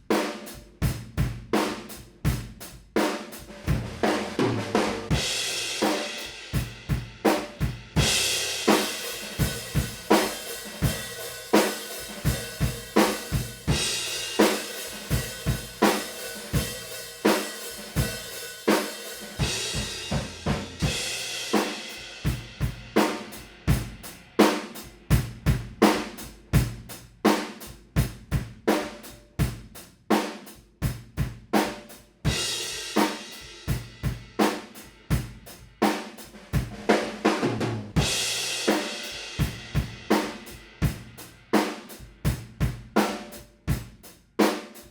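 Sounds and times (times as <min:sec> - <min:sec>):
drum kit groove: 0:00.0 - 0:44.9.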